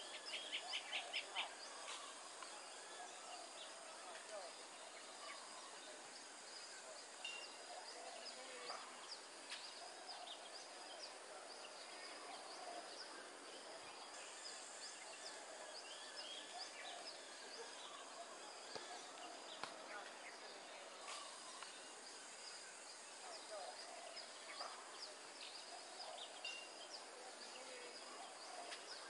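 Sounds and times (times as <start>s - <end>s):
high insect hiss: 0.0s - 29.0s.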